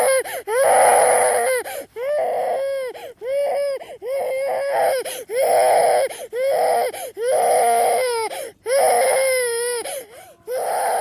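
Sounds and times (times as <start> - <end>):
baby crying: 0.0 - 11.0.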